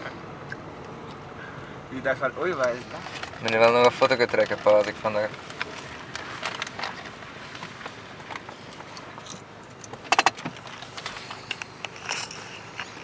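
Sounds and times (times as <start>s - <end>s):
clicks and rattles inside car: 2.0s - 13.0s.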